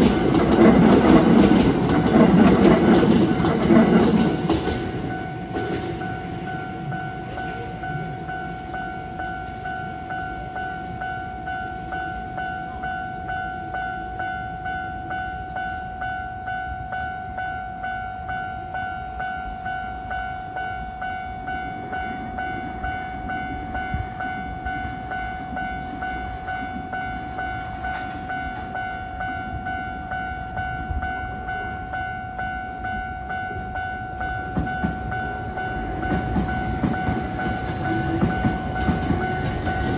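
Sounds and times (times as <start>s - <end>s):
trains rumbling past: 0.0s - 39.9s.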